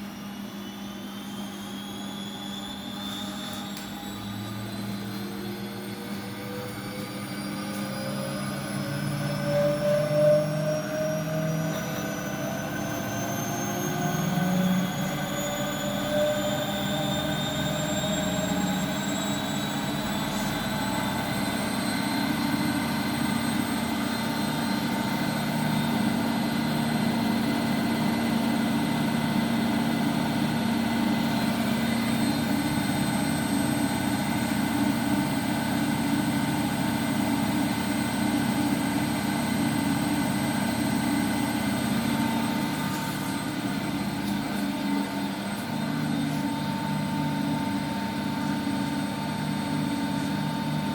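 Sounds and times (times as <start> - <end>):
motor whine: 0.0 - 50.9.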